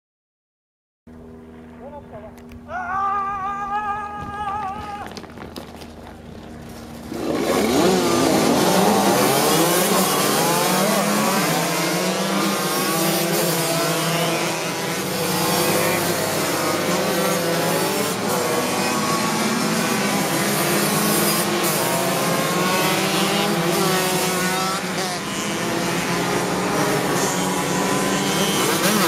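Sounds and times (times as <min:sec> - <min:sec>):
moped engines revving: 0:01.2 - 0:29.0.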